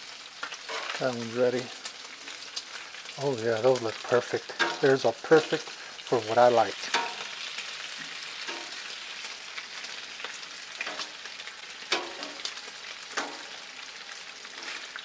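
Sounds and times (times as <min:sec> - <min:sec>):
bacon sizzling on griddle: 0:00.0 - 0:15.0.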